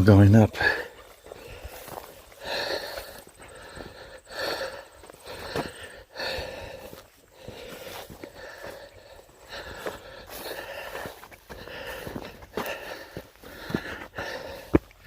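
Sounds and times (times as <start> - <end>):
footsteps on a path: 0.0 - 15.0
man breathing hard: 0.5 - 15.0.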